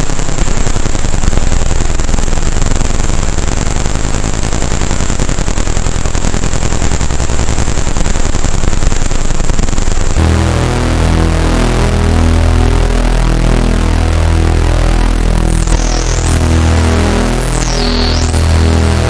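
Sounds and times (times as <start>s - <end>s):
synthesizer noise texture: 0.0s - 19.0s.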